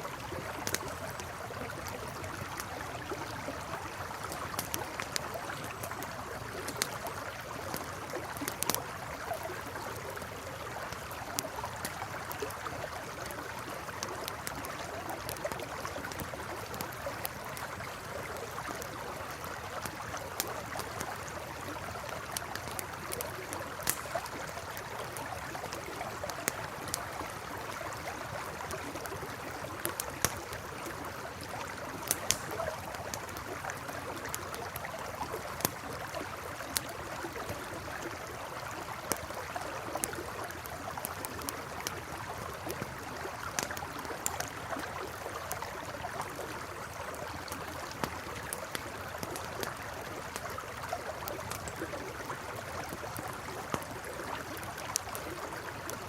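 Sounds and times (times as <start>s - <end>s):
campfire crackling and popping: 0.0s - 56.0s
river flowing: 0.0s - 56.0s.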